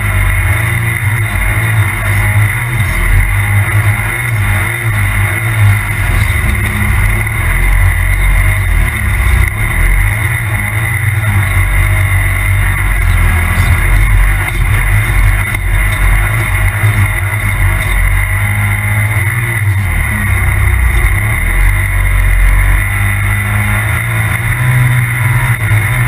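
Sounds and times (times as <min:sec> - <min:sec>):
vehicle engine rumbling at speed: 0:00.0 - 0:26.0.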